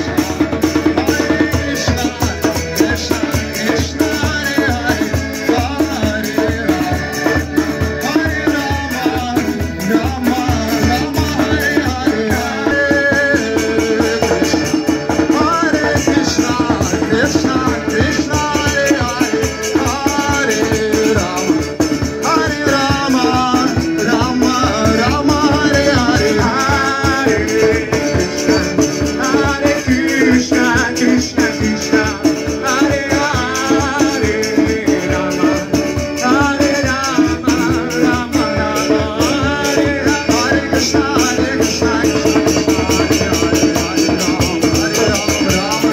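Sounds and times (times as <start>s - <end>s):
accordion chords: 0.0s - 45.9s
man singing chanted melody: 0.0s - 45.9s
rattling hand percussion: 0.0s - 45.9s.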